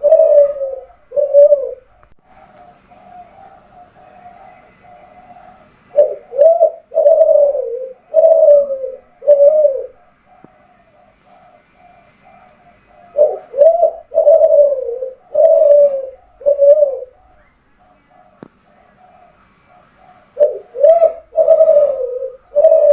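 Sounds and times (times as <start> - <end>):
dove cooing: 0.0 - 22.9.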